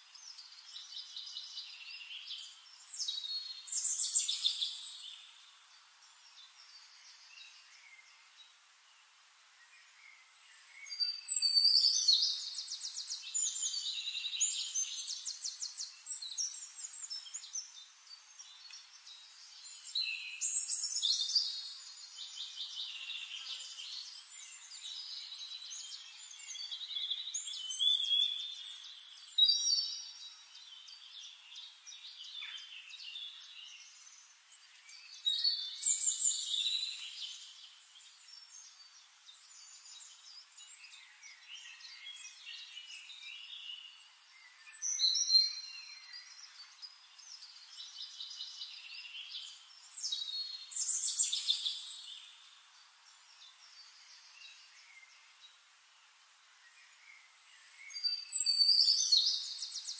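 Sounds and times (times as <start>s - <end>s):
songbirds singing and trilling: 0.0s - 59.9s.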